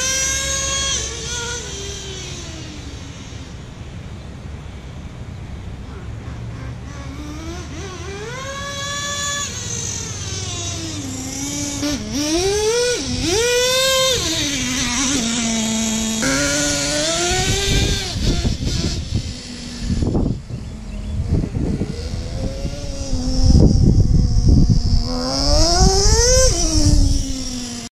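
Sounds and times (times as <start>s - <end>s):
small nitro engine revving: 0.0s - 4.5s, 5.8s - 27.9s.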